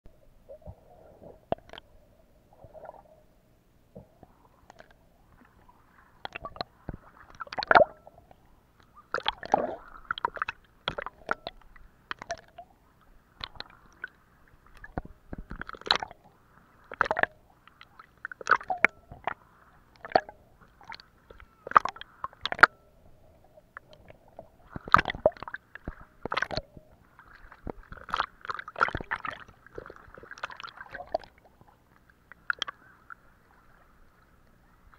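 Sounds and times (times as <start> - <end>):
water sloshing and gurgling: 0.1 - 34.9
water splashes: 0.5 - 3.2, 3.9 - 34.9.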